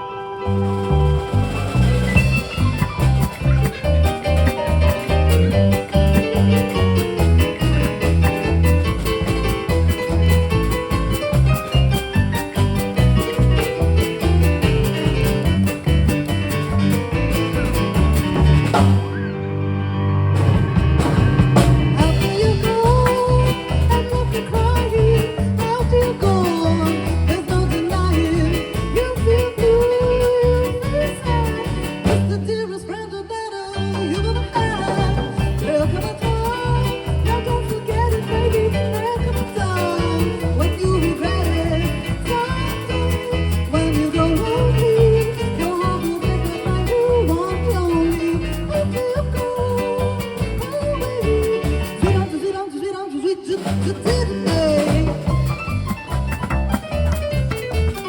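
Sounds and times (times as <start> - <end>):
live band playing swing jazz: 0.0 - 32.6, 33.7 - 58.0.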